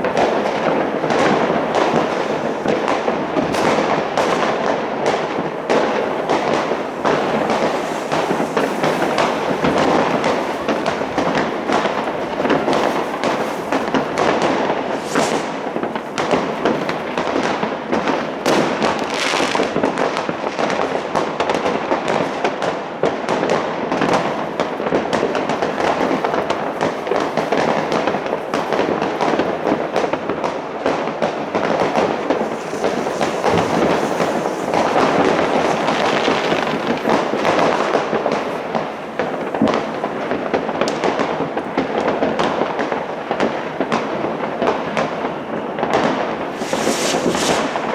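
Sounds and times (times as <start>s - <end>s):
fireworks and firecrackers crackling: 0.0s - 47.9s.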